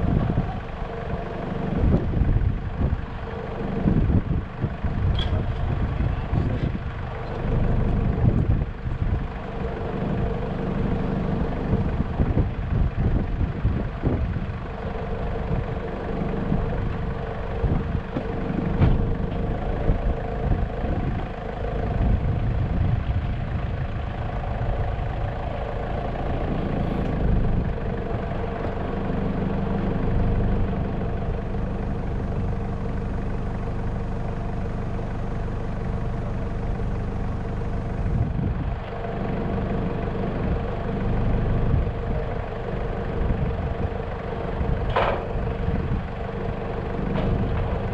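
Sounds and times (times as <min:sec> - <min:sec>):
car engine rumble: 0:00.0 - 0:47.9.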